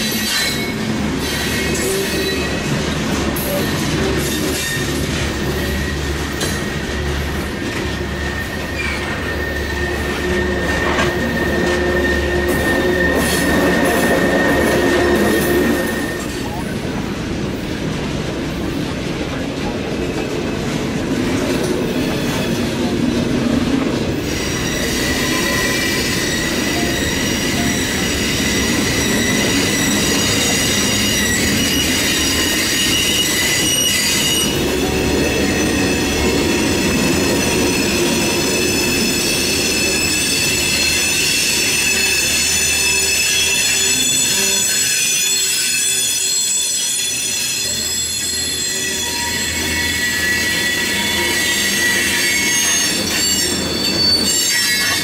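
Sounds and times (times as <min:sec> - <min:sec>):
train wheels squealing: 0:00.0 - 0:16.7, 0:21.8 - 0:23.0, 0:24.2 - 0:55.0
freight train rumbling past: 0:00.0 - 0:55.0.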